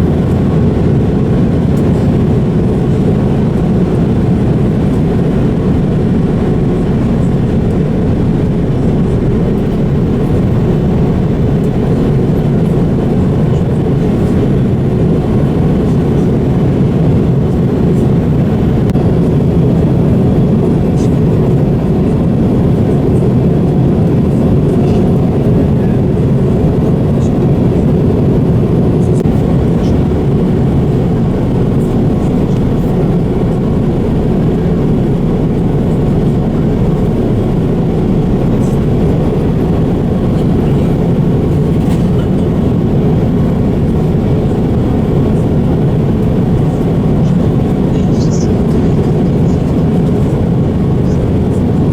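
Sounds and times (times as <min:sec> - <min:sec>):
jet airliner cabin rumble: 0:00.0 - 0:51.9.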